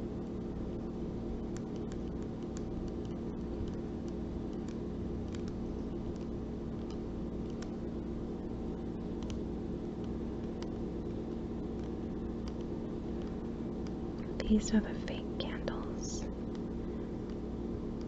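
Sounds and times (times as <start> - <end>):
low hum and hiss: 0.0 - 18.0.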